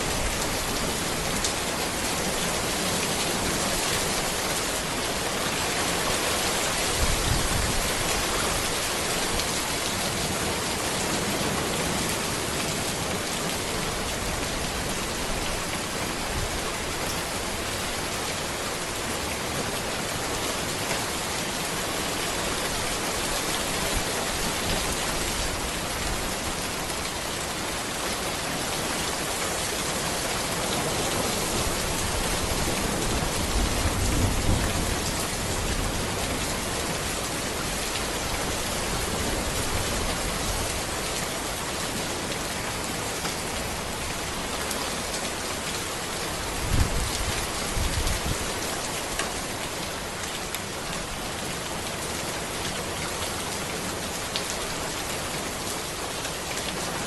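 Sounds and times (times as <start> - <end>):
rain falling on a road: 0.0 - 57.0.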